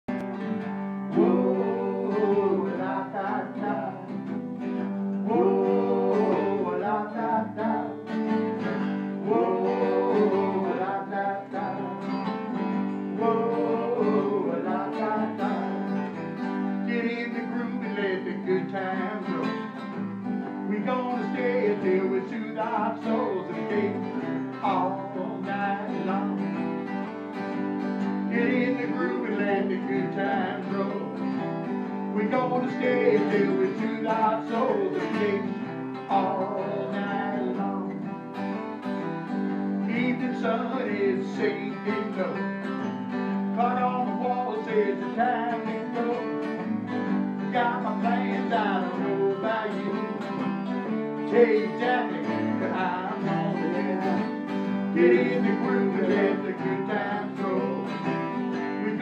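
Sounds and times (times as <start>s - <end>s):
acoustic guitars strumming: 0.0s - 59.0s
man singing: 1.1s - 26.6s, 28.3s - 38.2s, 39.8s - 59.0s.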